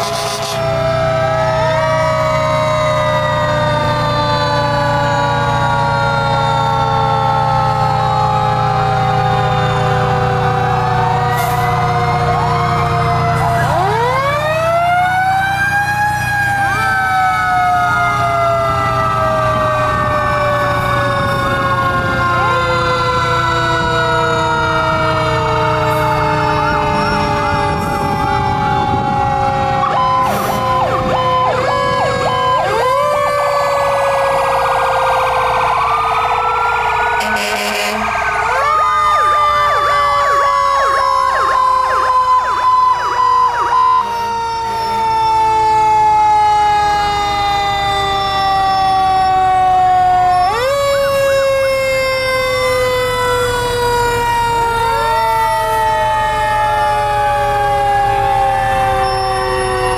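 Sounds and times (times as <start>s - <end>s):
fire truck siren winding: 0.0s - 59.9s
quick wailing sirens: 0.0s - 59.9s.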